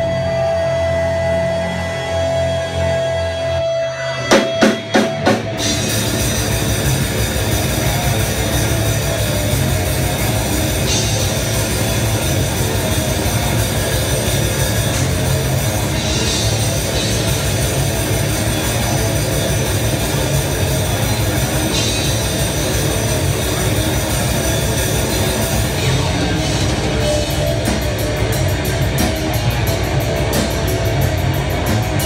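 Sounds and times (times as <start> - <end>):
droning intro: 0.0 - 32.0
guitars: 0.0 - 32.0
metal band playing live: 0.0 - 32.0
loud band hits: 4.0 - 32.0
fast drumming: 4.3 - 32.0.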